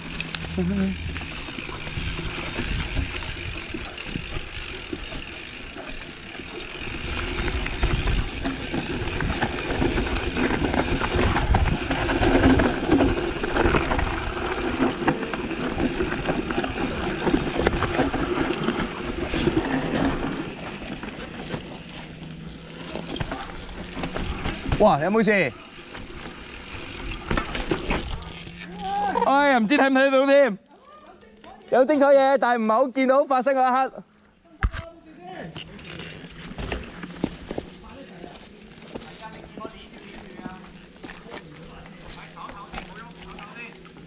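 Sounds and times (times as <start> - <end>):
bike rattling over bumps: 0.0 - 30.2, 35.5 - 44.0
bike tyres on dirt: 0.0 - 44.0.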